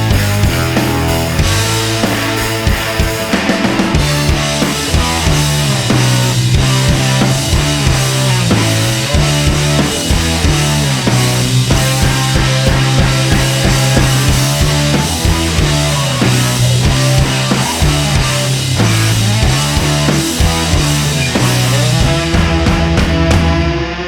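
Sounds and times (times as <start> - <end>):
rock music with heavy bass: 0.0 - 24.0.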